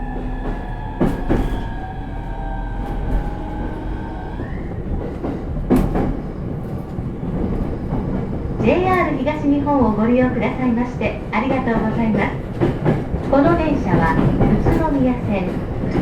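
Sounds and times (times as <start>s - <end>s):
wheels clacking over rail joints: 0.0s - 10.4s, 11.4s - 16.0s
electric train rumble: 0.0s - 16.0s.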